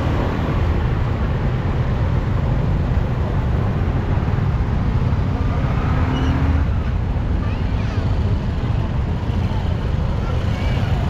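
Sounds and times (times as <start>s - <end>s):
road noise: 0.0s - 11.0s
small motorbike engines rumbling: 0.0s - 11.0s.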